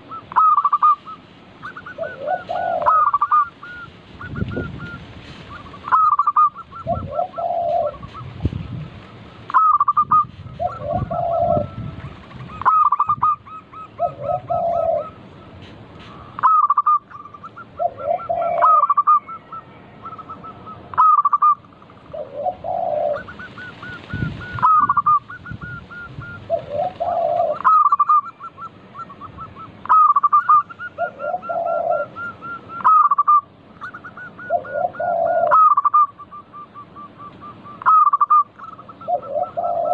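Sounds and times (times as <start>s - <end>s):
dove singing and cooing: 0.0s - 39.9s.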